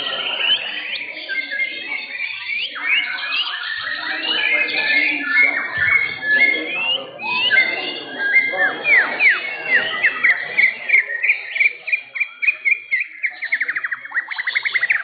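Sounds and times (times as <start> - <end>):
faint background murmur: 0.0 - 15.0
songbird whistling and trilling: 0.0 - 15.0.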